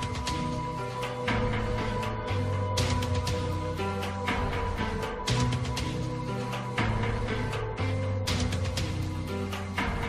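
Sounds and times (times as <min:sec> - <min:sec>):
held low music notes: 0:00.0 - 0:10.0.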